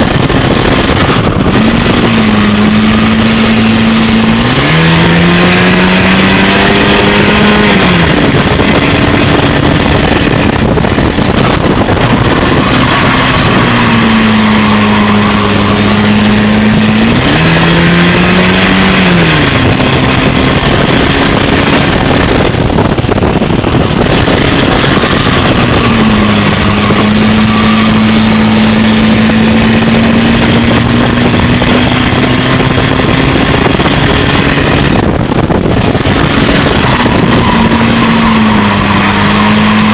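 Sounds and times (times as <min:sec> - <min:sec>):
race car engine: 0:00.0 - 0:39.9
track noise: 0:00.0 - 0:39.9.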